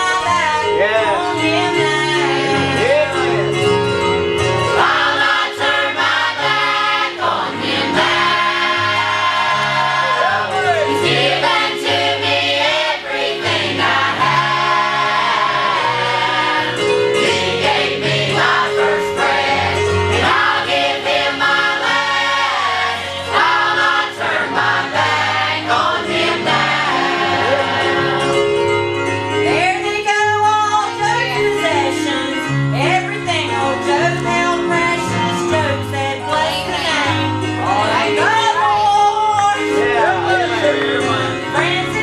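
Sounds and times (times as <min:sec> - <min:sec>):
choir singing gospel song: 0:04.4 - 0:30.0, 0:33.6 - 0:42.0.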